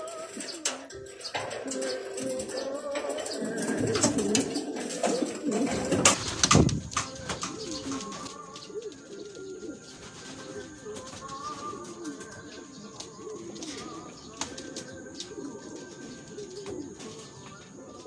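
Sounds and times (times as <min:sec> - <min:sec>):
pigeons cooing: 0:00.0 - 0:18.0
wings fluttering and clattering: 0:00.0 - 0:18.0.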